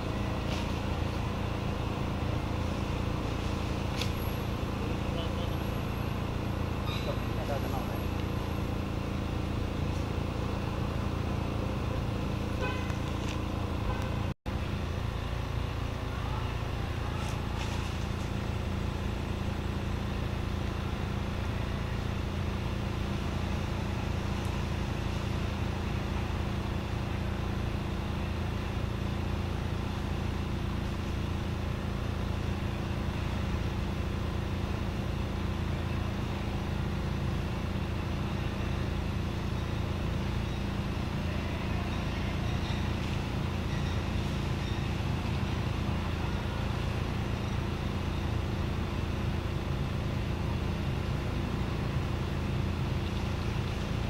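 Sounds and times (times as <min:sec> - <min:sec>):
low rumbling hum: 0:00.0 - 0:54.0.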